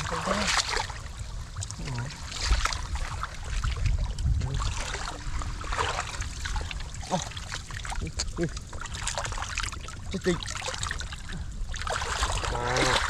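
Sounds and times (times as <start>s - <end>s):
splashing in shallow water: 0.0s - 13.0s
wind rumble on microphone: 0.0s - 13.0s.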